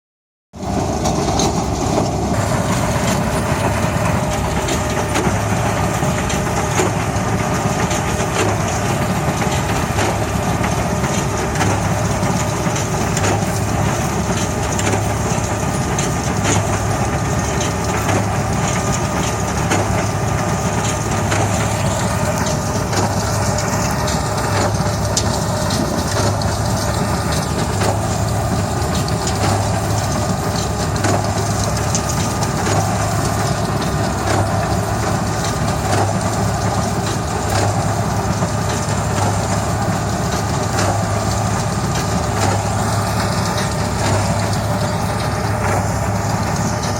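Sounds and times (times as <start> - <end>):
baler crunching and clattering: 0.6 - 46.9
tractor engine drone: 0.6 - 46.9.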